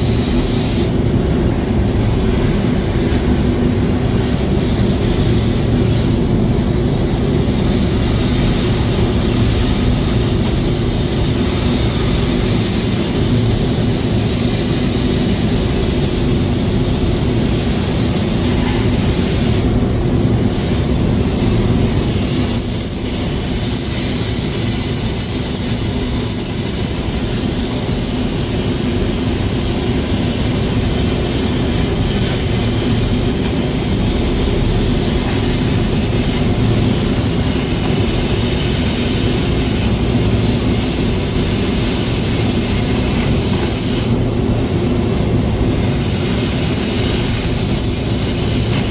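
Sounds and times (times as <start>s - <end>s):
steady mechanical drone: 0.0s - 48.9s.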